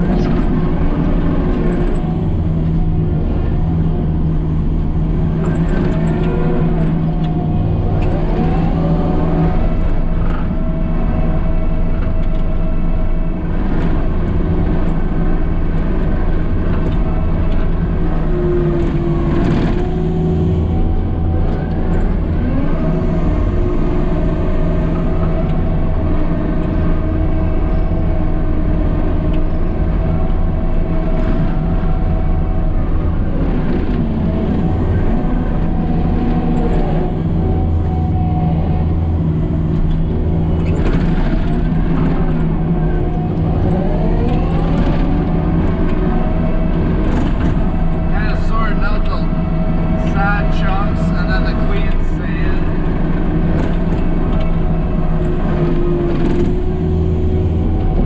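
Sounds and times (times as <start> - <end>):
diesel engine under load: 0.0 - 58.0
hydraulic whine: 0.0 - 58.0.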